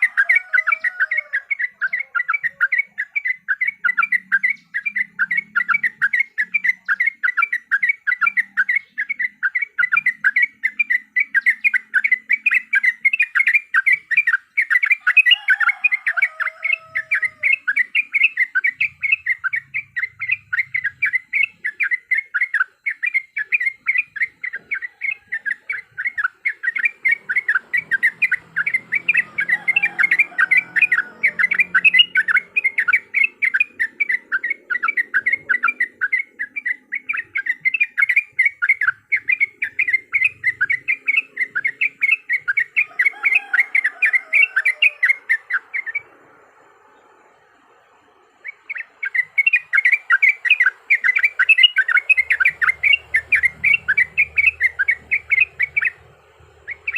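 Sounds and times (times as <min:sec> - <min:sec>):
bird chirping notes: 0:00.0 - 0:56.9.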